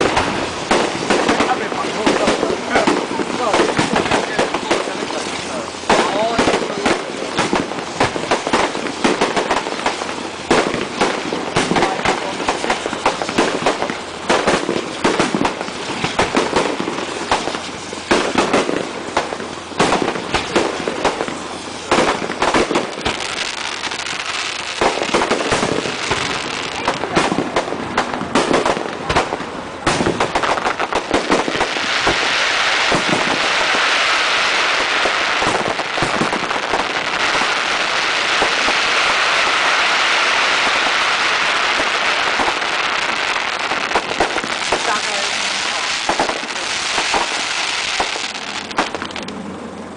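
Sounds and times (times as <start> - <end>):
dense steady hiss: 0.0 - 49.9
fireworks bangs and pops: 0.0 - 49.9.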